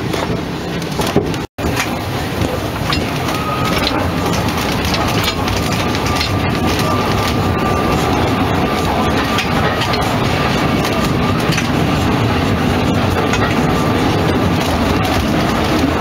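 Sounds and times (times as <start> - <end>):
steam train wheels rumbling: 0.0 - 16.0.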